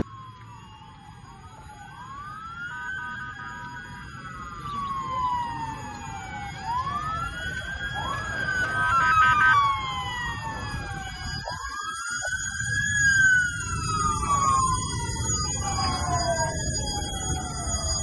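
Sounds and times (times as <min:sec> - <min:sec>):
emergency sirens wailing: 0:00.0 - 0:18.0.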